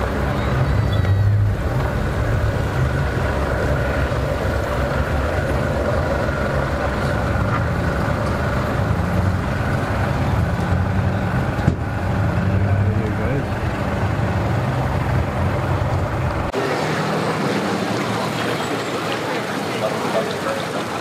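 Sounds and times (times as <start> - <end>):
outboard motor rumbling: 0.0 - 21.0.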